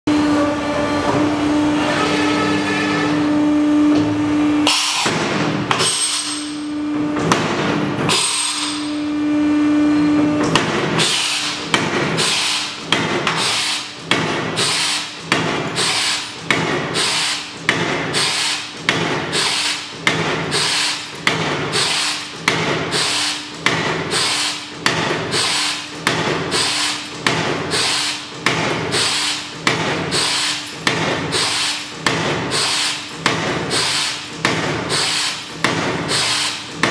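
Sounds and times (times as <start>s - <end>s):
hydraulic pump humming: 0.1s - 36.9s
press strokes clanking: 3.9s - 9.2s, 10.0s - 36.9s.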